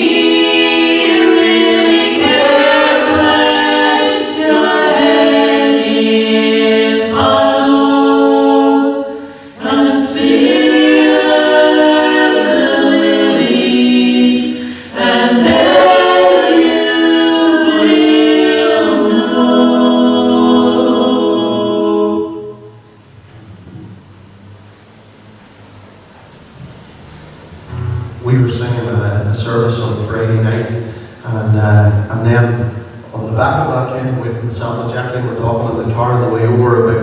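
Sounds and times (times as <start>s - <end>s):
group singing a gospel hymn: 0.0s - 23.1s, 28.2s - 37.0s.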